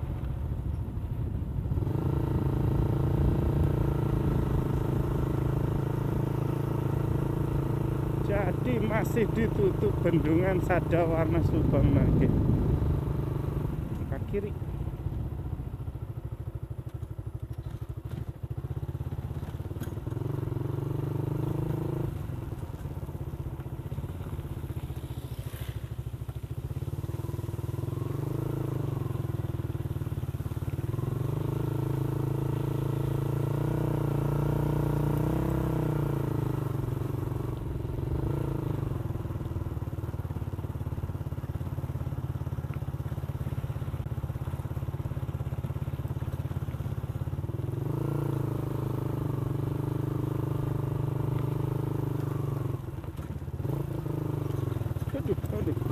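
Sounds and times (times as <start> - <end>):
motorcycle engine revving: 1.6 - 55.9.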